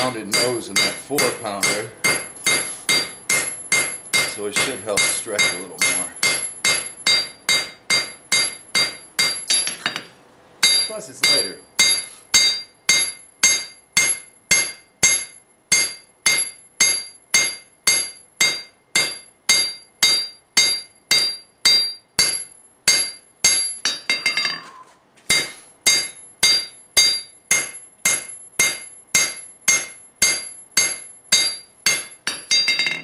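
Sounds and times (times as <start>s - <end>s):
hammer striking metal on anvil: 0.0s - 33.0s.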